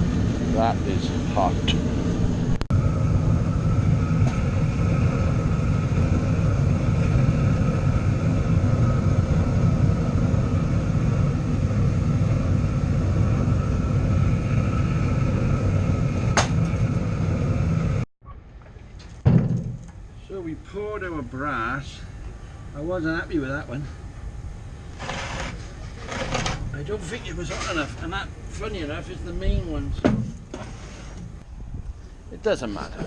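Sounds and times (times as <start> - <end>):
furnace roaring: 0.0 - 18.1, 18.7 - 31.8
faint steady whine: 0.0 - 19.2, 19.8 - 33.0.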